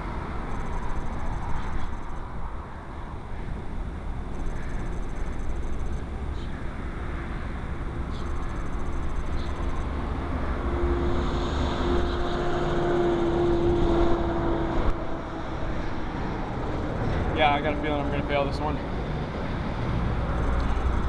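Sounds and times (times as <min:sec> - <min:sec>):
droning hum: 0:00.0 - 0:21.0
low rumble of vehicle noise: 0:00.0 - 0:21.0.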